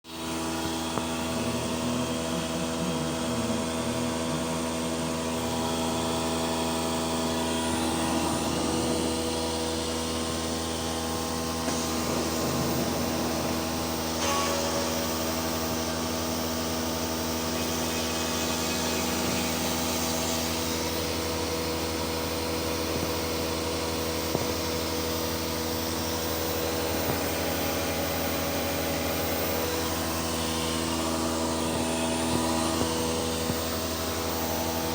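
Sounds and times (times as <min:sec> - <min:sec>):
machine motor whirring: 0:00.2 - 0:34.9.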